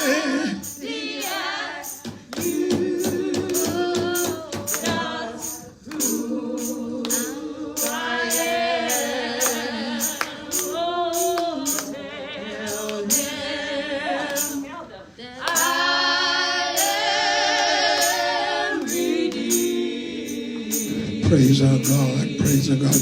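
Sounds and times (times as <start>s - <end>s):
steady percussion beat: 0.0s - 13.7s, 14.3s - 14.7s, 15.5s - 23.0s
gospel singing: 0.0s - 23.0s.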